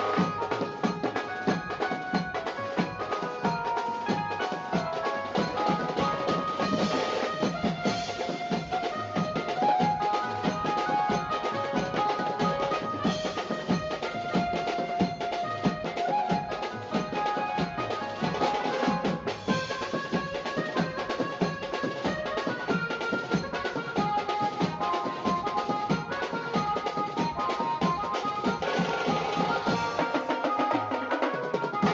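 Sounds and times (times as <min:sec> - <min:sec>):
background music with drumming: 0:00.0 - 0:31.9.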